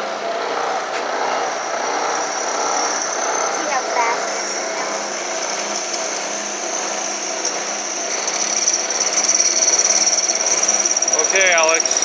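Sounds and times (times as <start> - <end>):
drill press whining and rattling: 0.0 - 12.0.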